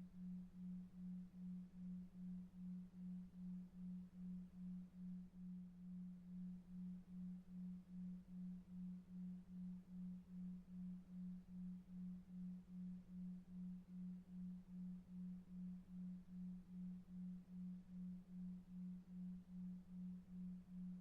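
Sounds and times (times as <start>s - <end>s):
low pulsing pure tone: 0.0s - 21.0s.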